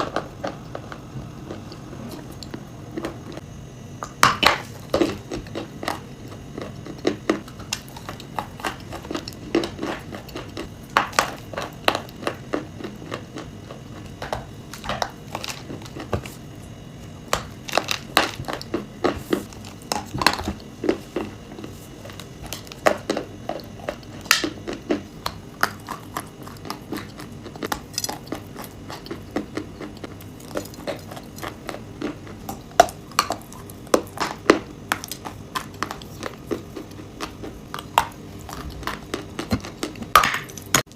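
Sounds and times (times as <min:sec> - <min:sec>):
chalk and nuts crunching: 0:04.2 - 0:16.4, 0:17.3 - 0:40.9.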